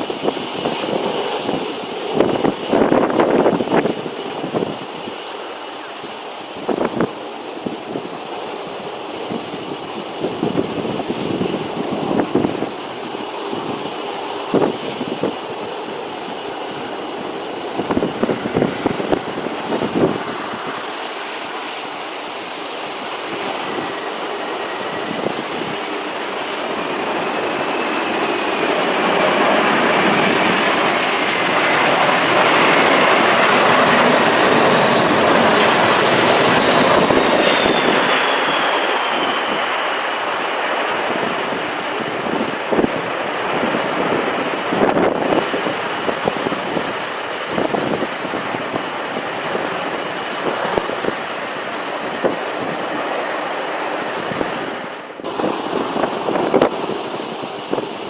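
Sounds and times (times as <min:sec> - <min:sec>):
jet airliner engine whine: 0:00.0 - 0:58.0
wind buffeting microphone: 0:00.0 - 0:58.0.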